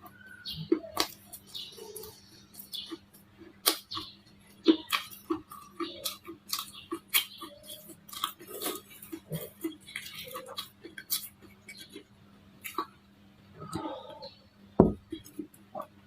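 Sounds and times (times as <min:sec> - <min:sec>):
crunchy clay being chewed: 0:00.0 - 0:13.0.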